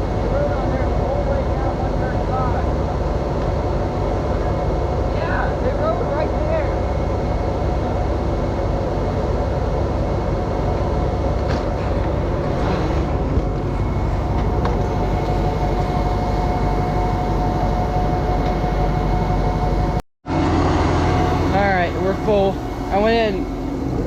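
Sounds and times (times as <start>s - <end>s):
steady high whine: 0.0s - 24.0s
tractor diesel engine running: 0.0s - 24.0s.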